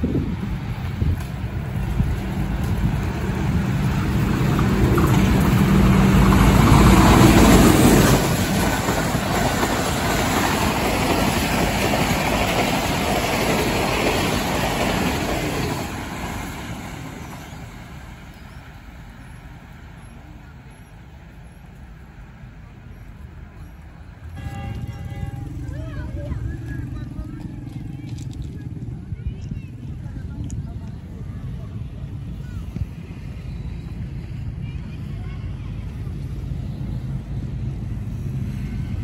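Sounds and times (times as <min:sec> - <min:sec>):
diesel locomotive engine drone: 0:00.0 - 0:39.0
train coaches rushing past: 0:00.0 - 0:39.0.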